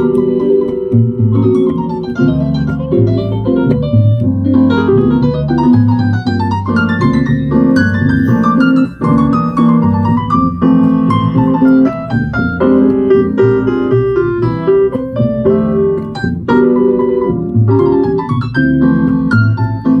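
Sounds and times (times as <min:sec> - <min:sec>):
jazz piano trio playing: 0:00.0 - 0:20.0.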